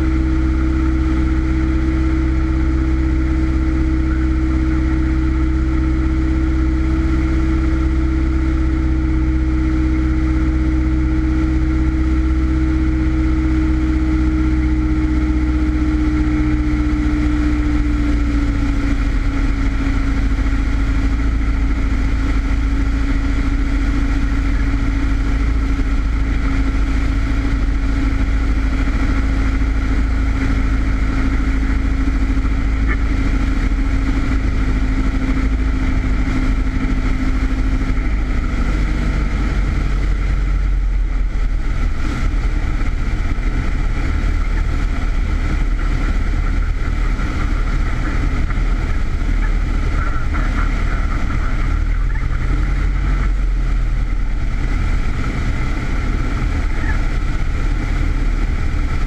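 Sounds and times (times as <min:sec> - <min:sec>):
plane engine and propeller drone: 0:00.0 - 0:59.0.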